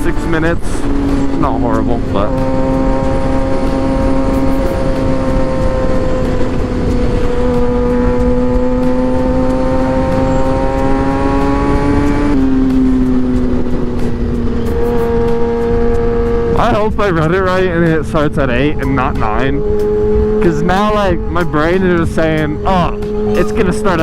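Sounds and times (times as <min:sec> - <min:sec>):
motorcycle engine cruising: 0:00.0 - 0:24.0
wind noise: 0:00.0 - 0:24.0.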